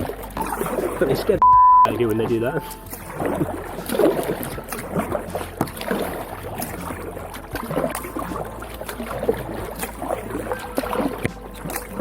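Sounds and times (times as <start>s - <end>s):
paddle splashing in water: 0.0s - 12.0s
water dripping: 0.0s - 12.0s.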